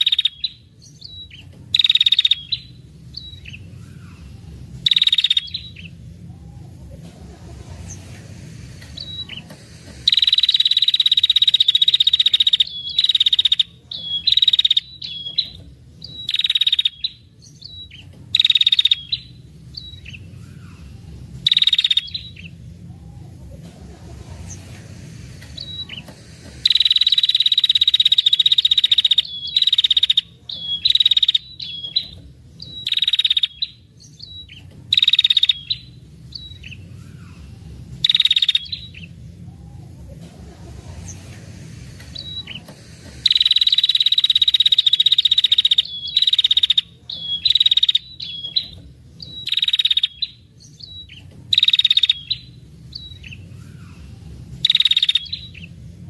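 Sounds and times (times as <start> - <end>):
bird buzzy rattling trills: 0.0 - 56.0
bird chip notes: 0.0 - 56.0.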